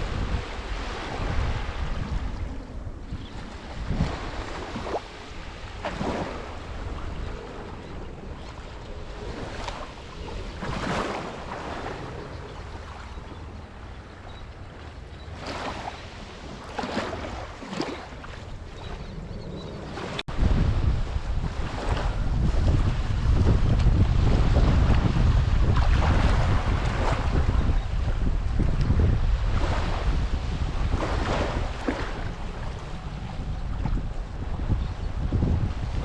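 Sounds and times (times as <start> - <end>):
small waves breaking on beach: 0.0 - 13.3, 15.3 - 19.1, 19.9 - 34.7
wind rumbling on microphone: 0.0 - 36.0.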